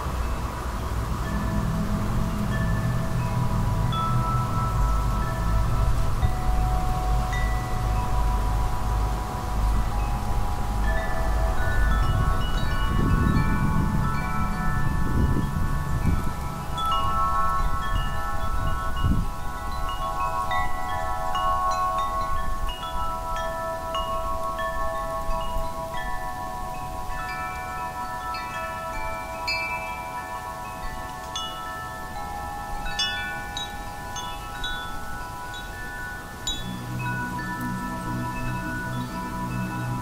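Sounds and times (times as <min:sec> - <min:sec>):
low gust of wind: 0:00.0 - 0:40.0
wind chimes ringing: 0:00.0 - 0:40.0.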